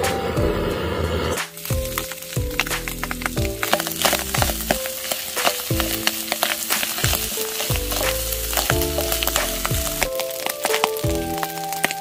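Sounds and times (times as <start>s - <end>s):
background music with a beat: 0.0s - 12.0s
food sizzling in a pan: 0.9s - 12.0s.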